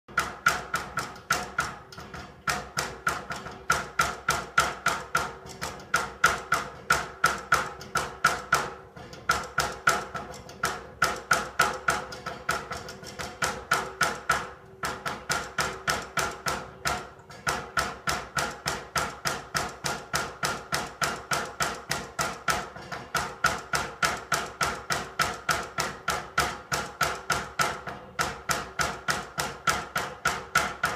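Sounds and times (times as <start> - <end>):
metallic knocking in pipes: 0.1 - 30.9.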